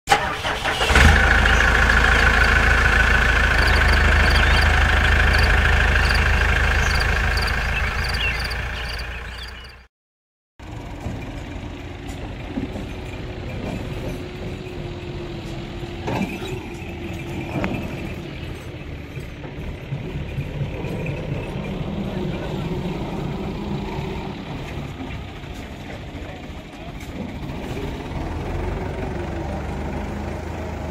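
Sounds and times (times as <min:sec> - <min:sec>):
loud engine-like rumble: 0:00.1 - 0:09.9, 0:10.6 - 0:30.9
tractor engine idling: 0:00.1 - 0:09.9, 0:10.6 - 0:30.9.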